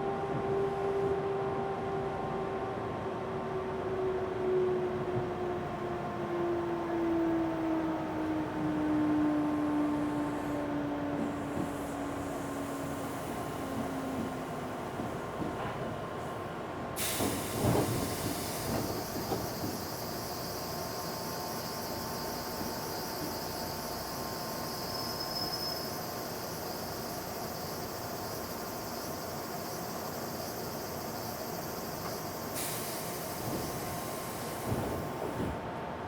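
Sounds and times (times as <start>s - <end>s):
train car hum: 0.0s - 36.0s.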